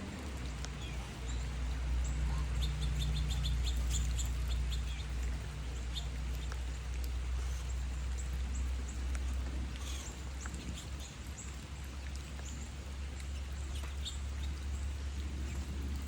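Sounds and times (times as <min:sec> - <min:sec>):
steady low hum: 0:00.0 - 0:16.0
birds chirping: 0:00.1 - 0:16.0.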